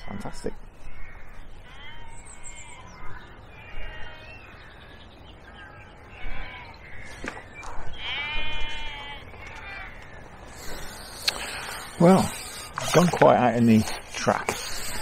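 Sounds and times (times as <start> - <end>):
birds harsh calls: 0.0 - 15.0.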